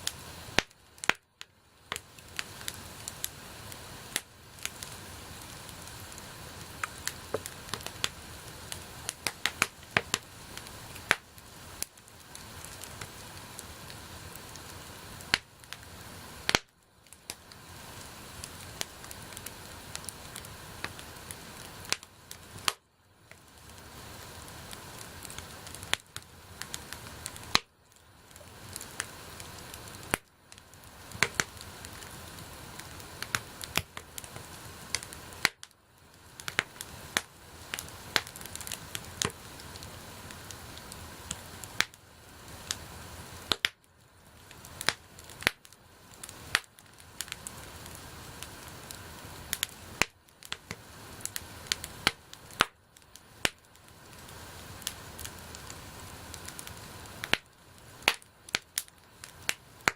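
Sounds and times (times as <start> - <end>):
bonfire pops and cracks: 0.0 - 59.9
hiss of flame: 0.0 - 59.9.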